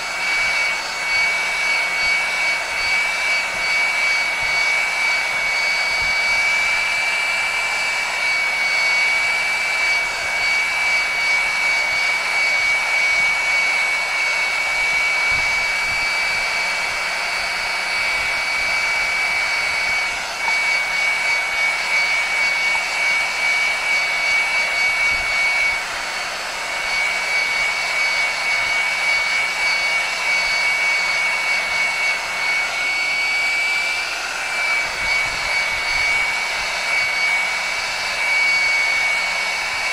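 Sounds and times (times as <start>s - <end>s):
heat gun blowing air: 0.0s - 39.9s.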